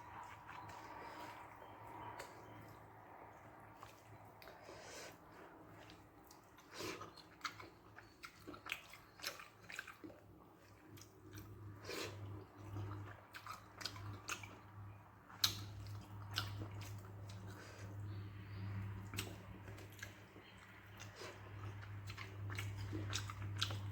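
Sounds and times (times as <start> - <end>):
chewing and wet mouth smacks: 0.0 - 23.9.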